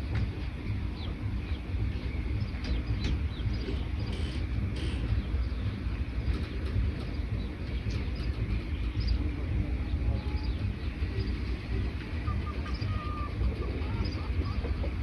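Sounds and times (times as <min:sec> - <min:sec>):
birds chirping: 0:00.0 - 0:15.0
steady low rumble: 0:00.0 - 0:15.0
low bird calls: 0:00.7 - 0:15.0.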